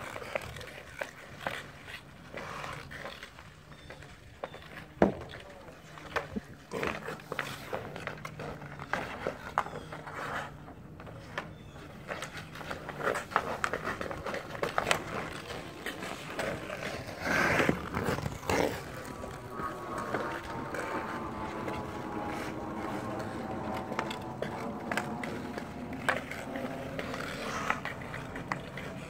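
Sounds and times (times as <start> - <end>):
hockey sticks clicking: 0.0 - 29.0
skates scraping on ice: 0.0 - 29.0.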